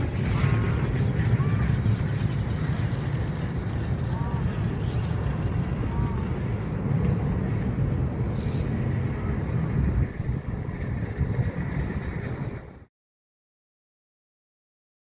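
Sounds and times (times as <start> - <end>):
low outdoor rumble: 0.0 - 12.9.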